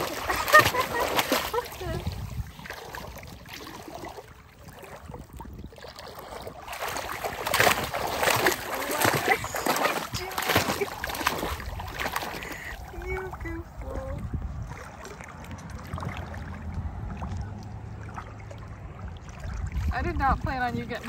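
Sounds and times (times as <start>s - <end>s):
shallow water splashing: 0.0s - 21.0s.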